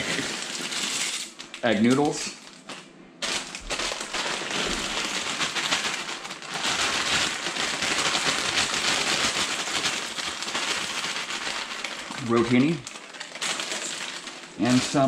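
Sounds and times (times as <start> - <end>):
plastic bag of pasta crinkling: 0.0 - 15.0.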